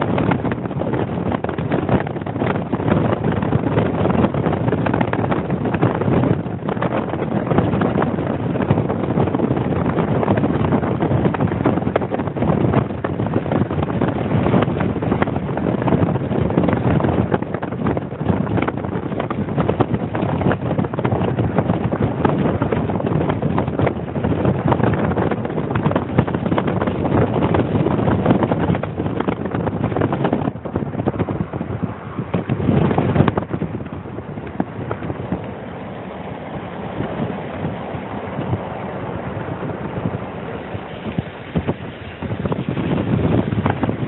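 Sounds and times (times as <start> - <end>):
vehicle road noise: 0.0 - 44.0
wind buffeting microphone: 0.0 - 44.0.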